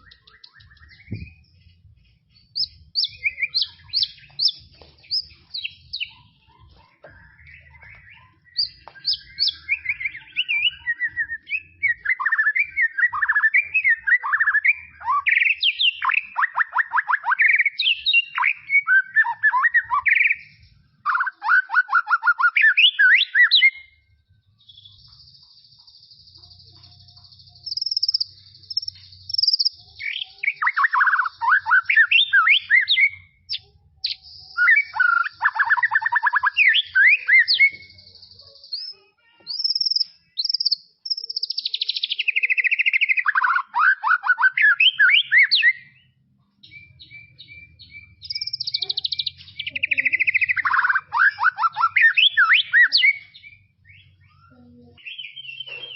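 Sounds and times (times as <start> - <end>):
bird singing whistled phrases: 0.0 - 1.6, 2.4 - 6.3, 7.1 - 24.0, 24.6 - 55.9.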